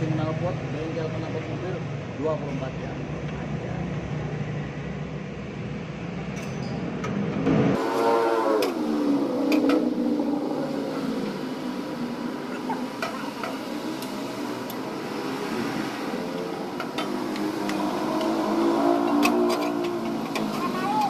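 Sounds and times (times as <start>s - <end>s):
engine hum: 0.0s - 21.0s.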